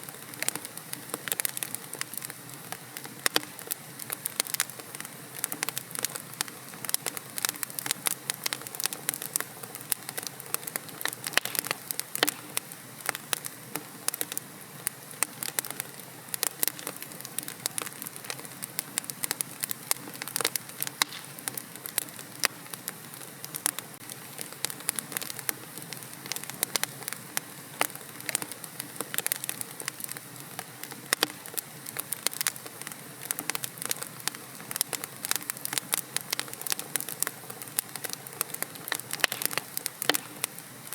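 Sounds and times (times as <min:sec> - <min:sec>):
soft steady hiss: 0:00.0 - 0:40.9
wood fire crackling: 0:00.0 - 0:40.9.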